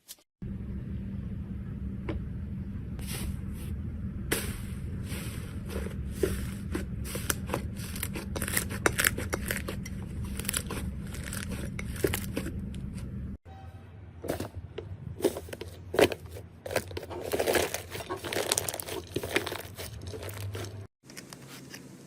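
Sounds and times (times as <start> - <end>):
steady low hum: 0.4 - 22.0.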